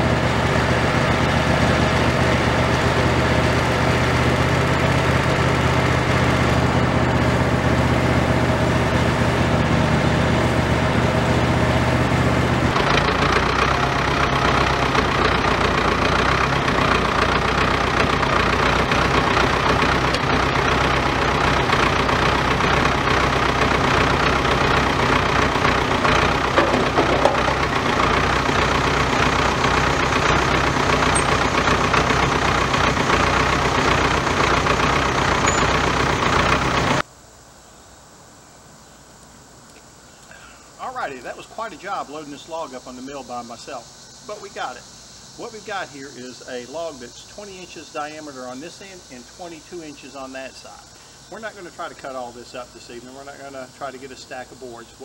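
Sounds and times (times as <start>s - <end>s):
tractor engine idling: 0.0s - 37.1s, 40.1s - 55.0s.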